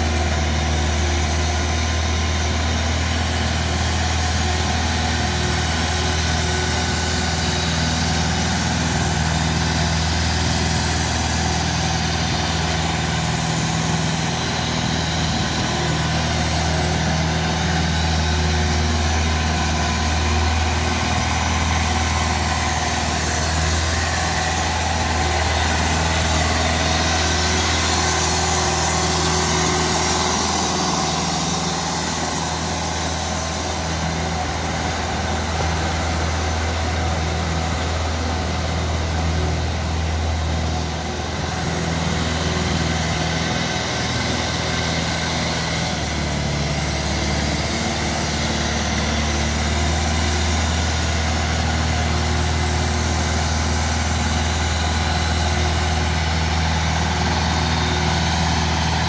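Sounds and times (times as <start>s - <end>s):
tractor engine running low: 0.0s - 59.0s.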